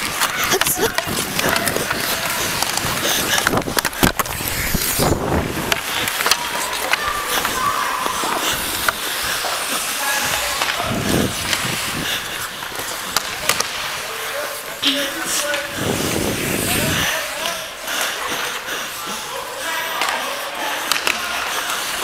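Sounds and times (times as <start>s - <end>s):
hockey sticks and puck clacking: 0.0s - 22.0s
skate blades scraping ice: 0.0s - 22.0s.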